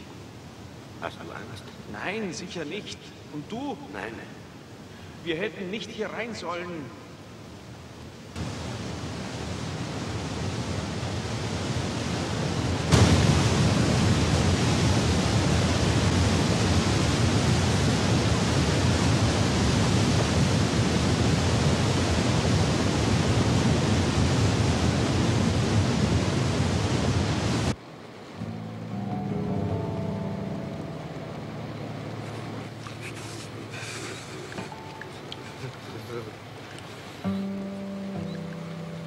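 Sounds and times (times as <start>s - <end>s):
whitewater rushing: 2.0s - 39.0s.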